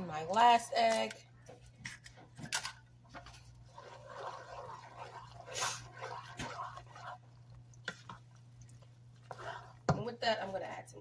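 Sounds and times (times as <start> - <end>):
low electrical hum: 0.0 - 11.0
spoon stirring wet food: 0.3 - 10.8.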